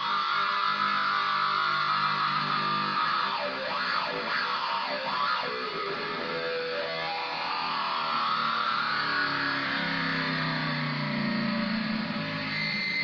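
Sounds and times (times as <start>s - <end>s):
electric guitar playing: 0.0s - 12.5s.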